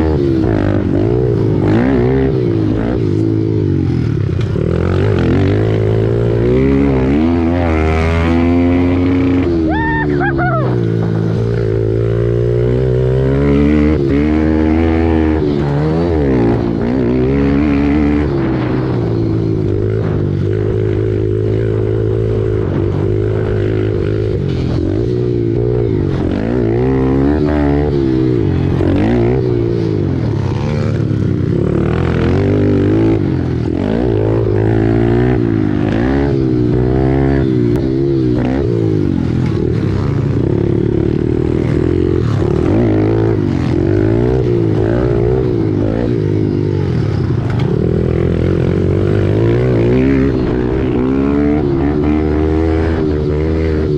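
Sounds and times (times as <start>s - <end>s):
pit bike engine revving: 0.0s - 53.9s.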